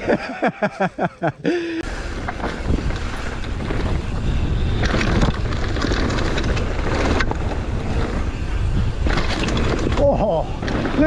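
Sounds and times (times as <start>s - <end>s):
bike rattling over bumps: 1.8s - 11.0s
bike tyres rumbling on dirt: 1.8s - 11.0s
wind over microphone: 1.8s - 11.0s.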